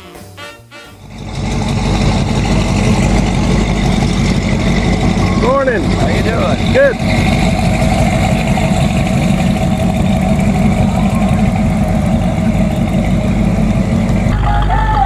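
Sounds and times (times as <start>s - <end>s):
car engine idling: 1.0s - 15.0s.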